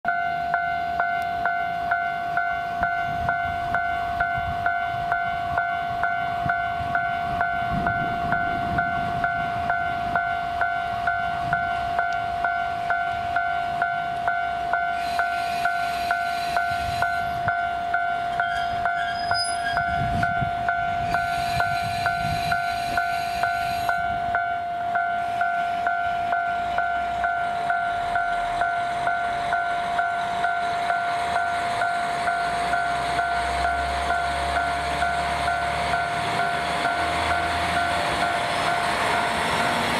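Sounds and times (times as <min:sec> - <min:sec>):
diesel railcar rumble: 0:00.0 - 0:39.9
level crossing warning bell: 0:00.1 - 0:39.9.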